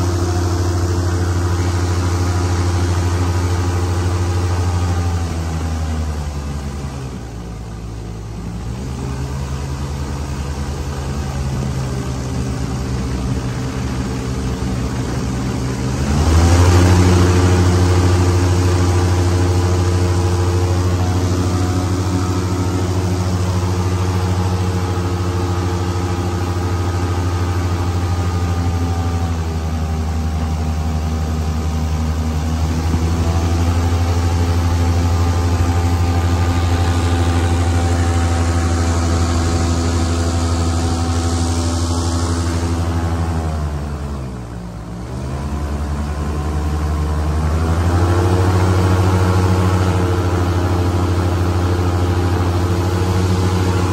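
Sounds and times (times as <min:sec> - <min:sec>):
airboat engine and propeller: 0:00.0 - 0:53.9.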